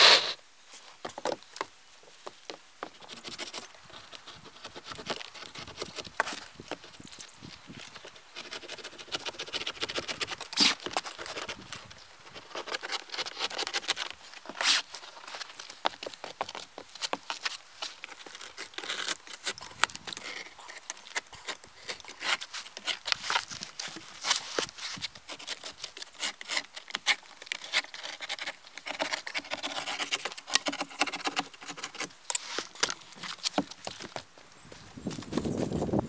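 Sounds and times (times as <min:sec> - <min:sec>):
roofing felt scraping and crinkling: 0:03.0 - 0:34.2.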